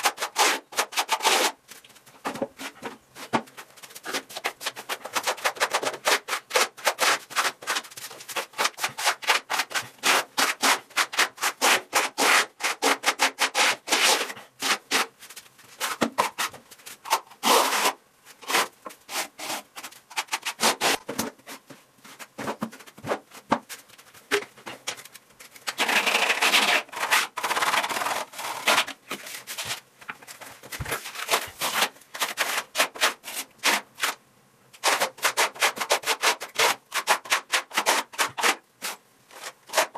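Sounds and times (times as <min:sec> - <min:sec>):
trowel scraping plaster on wall: 0:00.0 - 0:01.6, 0:02.4 - 0:21.6, 0:25.7 - 0:29.7, 0:30.8 - 0:34.2, 0:34.8 - 0:39.9.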